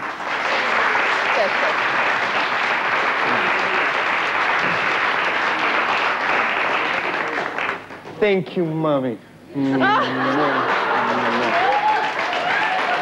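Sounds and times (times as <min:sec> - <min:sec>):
studio audience applauding: 0:00.0 - 0:08.1, 0:10.0 - 0:13.0.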